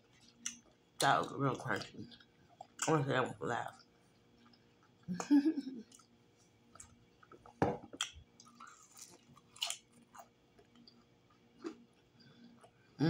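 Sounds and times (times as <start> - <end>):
chewing fried food: 0.0 - 2.9, 3.6 - 5.1, 5.8 - 12.9.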